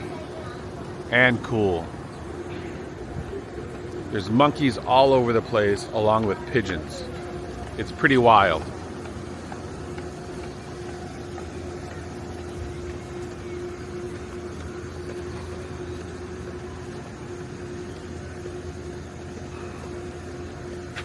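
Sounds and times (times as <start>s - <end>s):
constant low hum: 0.0s - 21.0s
outdoor background noise: 0.0s - 21.0s.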